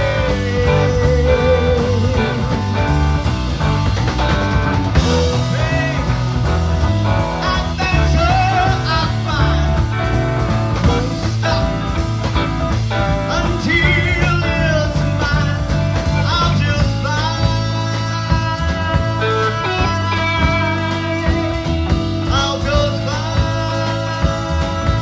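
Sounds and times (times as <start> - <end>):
progressive rock band playing: 0.0 - 25.0.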